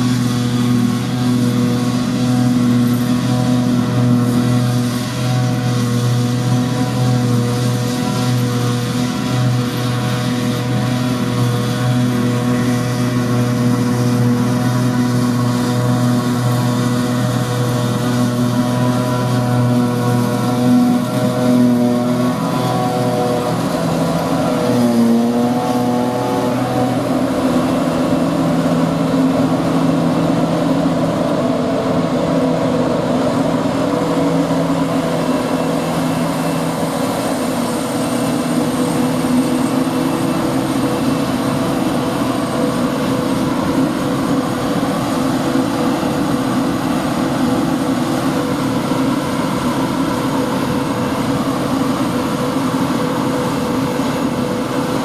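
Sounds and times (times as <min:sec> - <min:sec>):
diesel farm machinery running: 0:00.0 - 0:55.0.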